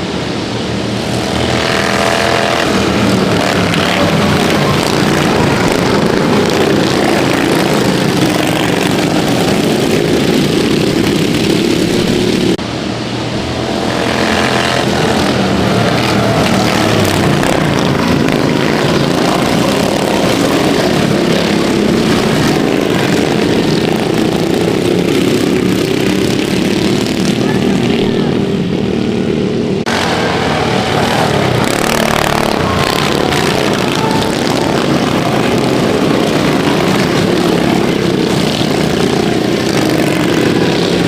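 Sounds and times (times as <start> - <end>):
lawnmower engines racing: 0.0 - 41.0
engine revving up: 0.8 - 41.0.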